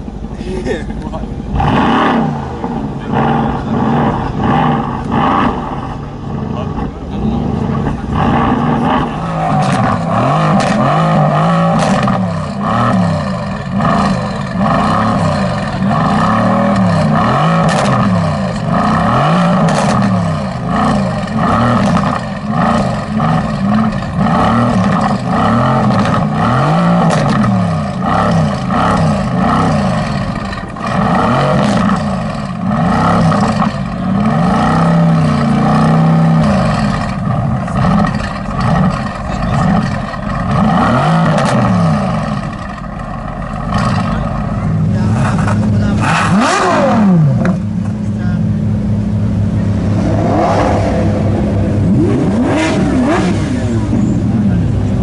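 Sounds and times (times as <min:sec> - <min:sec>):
car engine revving: 0:00.0 - 0:55.0
sharp exhaust cracks: 0:01.0 - 0:48.4.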